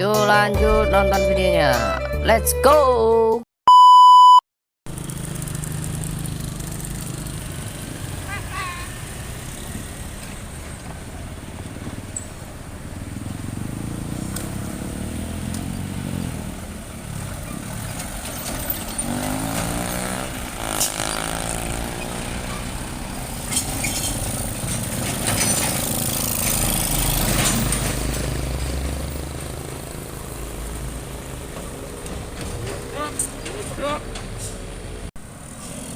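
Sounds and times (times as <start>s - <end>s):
heavy vehicles passing: 4.9s - 35.9s.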